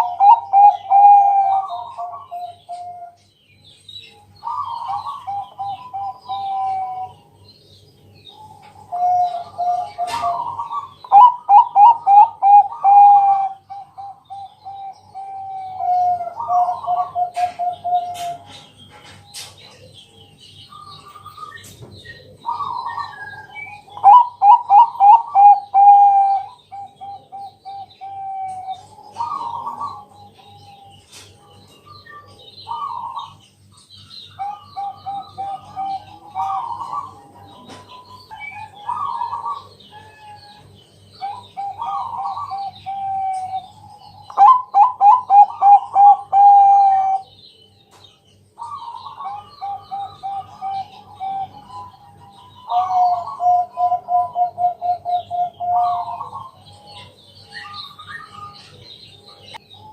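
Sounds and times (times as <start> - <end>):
dove cooing with rolling trill: 0.0 - 3.2, 4.0 - 18.9, 19.6 - 47.5, 48.6 - 59.9.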